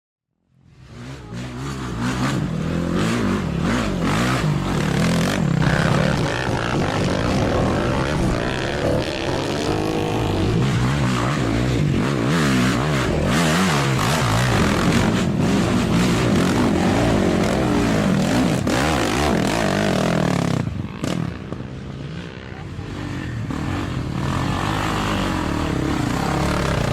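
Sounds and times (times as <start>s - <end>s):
quad bike engine revving: 0.8s - 26.9s.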